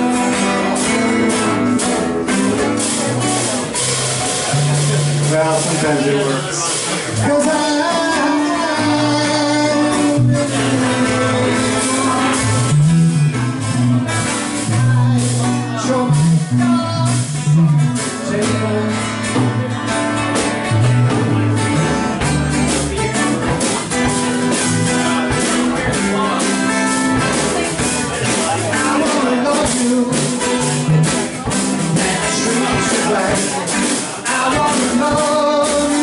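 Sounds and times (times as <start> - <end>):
acoustic guitar: 0.0 - 36.0
drum kit beat: 0.0 - 36.0
man singing: 0.0 - 36.0.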